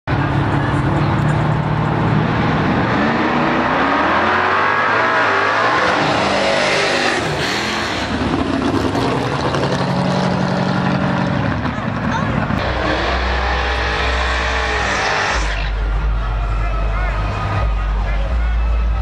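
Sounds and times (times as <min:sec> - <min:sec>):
car engines accelerating hard: 0:00.1 - 0:19.0.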